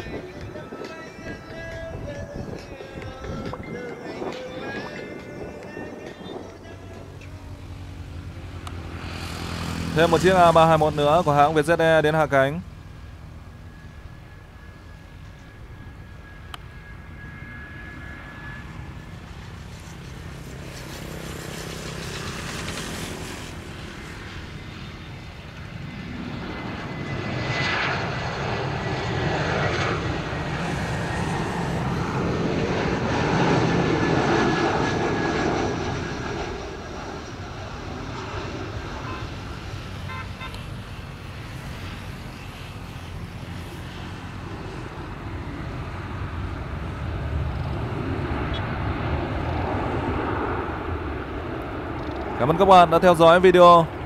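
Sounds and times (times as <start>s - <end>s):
jet airliner passing: 0.0s - 54.0s.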